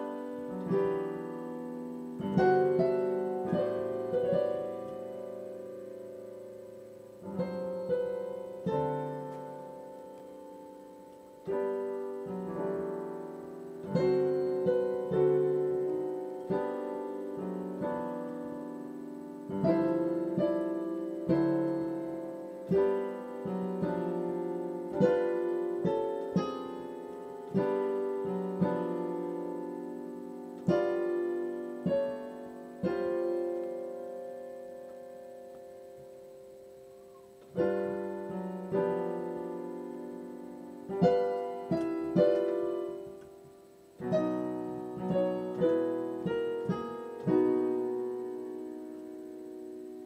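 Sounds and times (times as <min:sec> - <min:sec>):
slow solo piano: 0:00.0 - 0:50.0.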